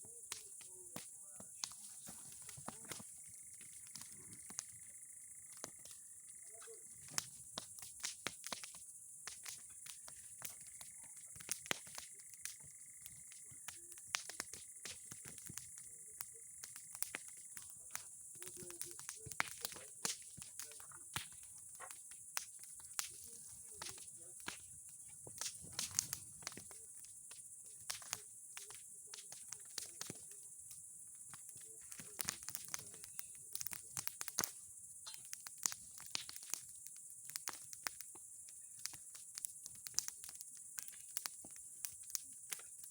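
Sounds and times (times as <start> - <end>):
bonfire crackling and popping: 0.0 - 42.9.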